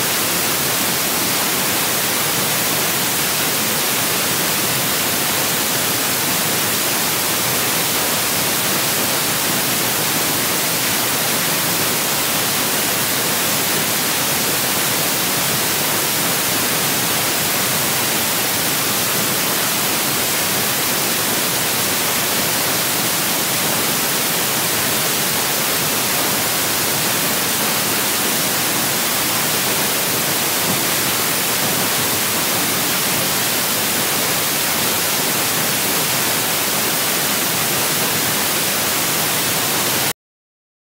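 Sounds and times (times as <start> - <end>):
static hiss: 0.0 - 40.1.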